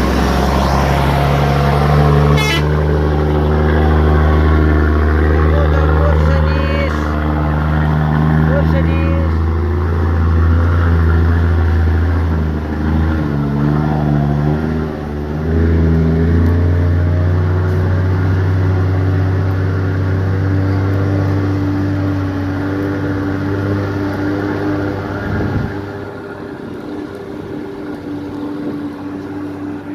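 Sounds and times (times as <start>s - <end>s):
truck diesel engine running: 0.0s - 29.9s.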